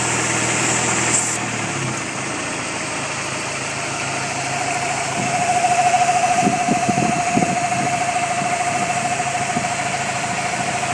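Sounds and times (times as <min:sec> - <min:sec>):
car engine running: 0:00.0 - 0:10.9
high engine whine: 0:00.0 - 0:10.9.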